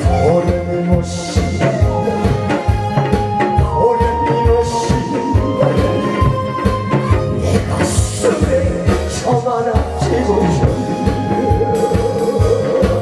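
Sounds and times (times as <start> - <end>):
amplified song over pa: 0.0 - 13.0.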